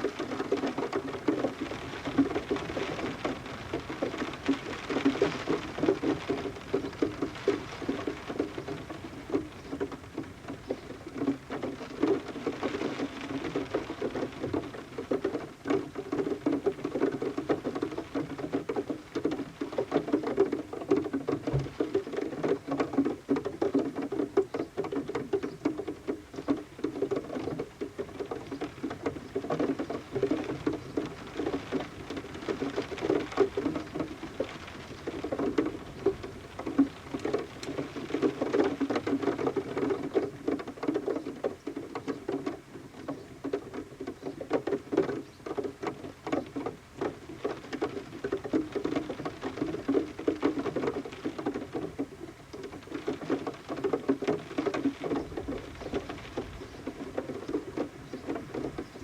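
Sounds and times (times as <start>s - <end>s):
rain pattering on window: 0.0s - 59.0s
water dripping off roof: 0.0s - 59.0s.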